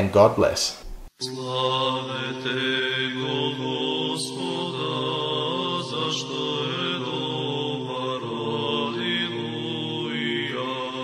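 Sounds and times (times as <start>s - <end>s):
vocal chant with sustained notes: 1.2s - 11.0s.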